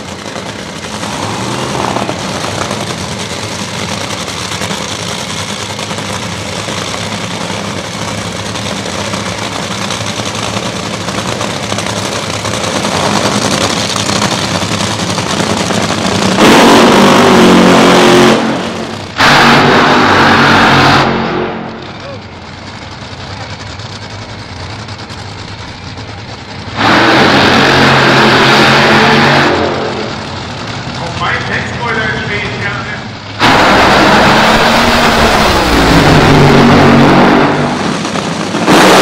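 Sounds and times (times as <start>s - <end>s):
dragster engine idling: 0.0s - 16.4s, 18.4s - 19.3s, 21.6s - 38.7s
dragster engine at full throttle: 0.0s - 39.0s.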